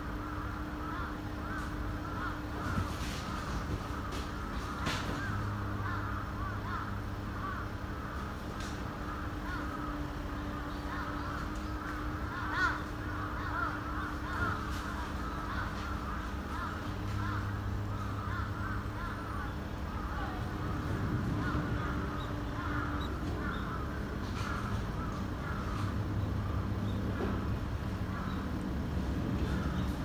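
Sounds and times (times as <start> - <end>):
many birds chirping: 0.0 - 30.0
steady low hum: 0.0 - 30.0.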